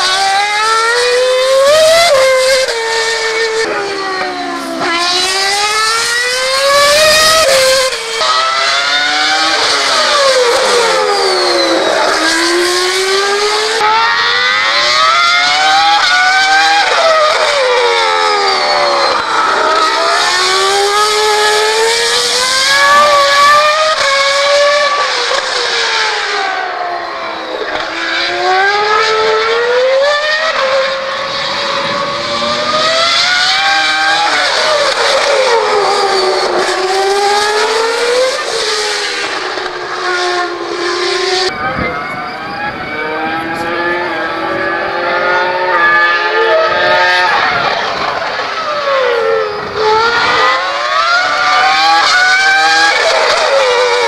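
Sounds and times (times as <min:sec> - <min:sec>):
racing car engine accelerating: 0:00.0 - 0:54.0.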